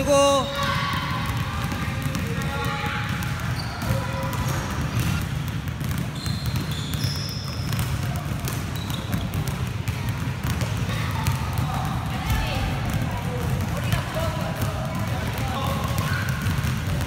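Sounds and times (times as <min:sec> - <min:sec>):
basketballs bouncing on hardwood: 0:00.0 - 0:17.0.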